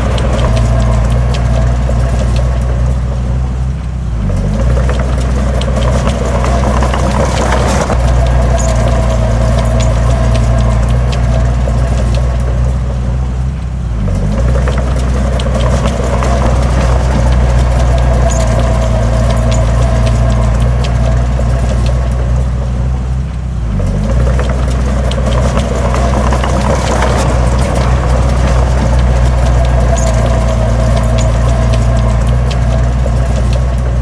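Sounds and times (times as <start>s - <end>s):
clicks and rattles: 0.0s - 34.0s
heavy diesel engine running: 0.0s - 34.0s.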